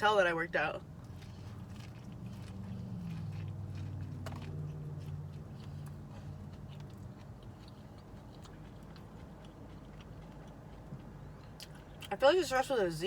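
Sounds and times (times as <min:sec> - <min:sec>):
low steady hum: 0:00.0 - 0:13.0
chewing crunchy food: 0:00.6 - 0:12.8.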